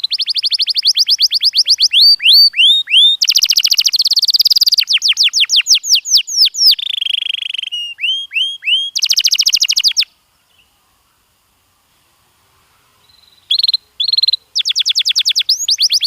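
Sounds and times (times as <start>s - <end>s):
canary singing: 0.0s - 10.7s, 13.0s - 16.0s.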